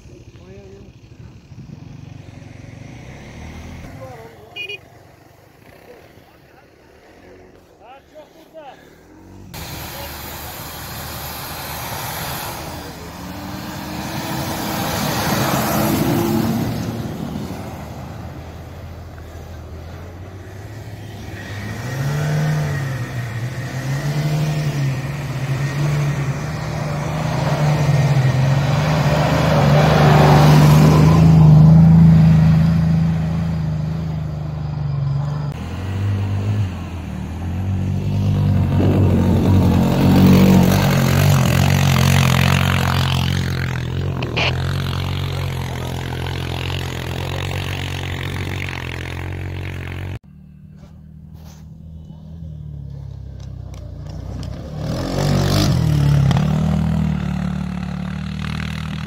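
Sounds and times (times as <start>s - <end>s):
truck engines revving in snow: 0.0s - 59.0s.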